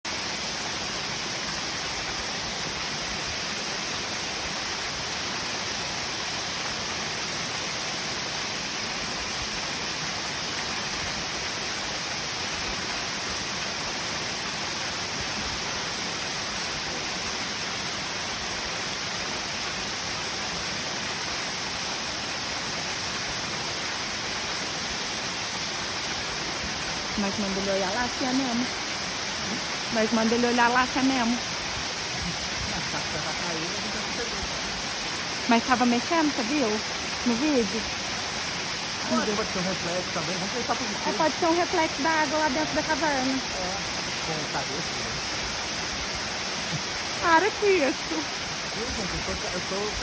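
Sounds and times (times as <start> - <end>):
waterfall roaring: 0.1 - 50.0.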